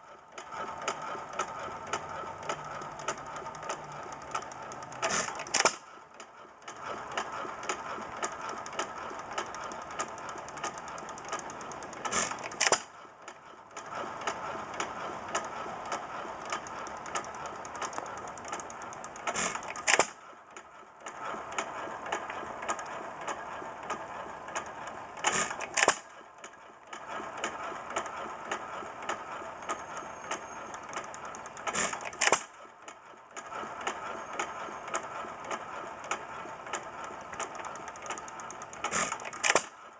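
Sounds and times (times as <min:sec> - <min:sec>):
engine clattering: 0:00.0 - 0:39.9.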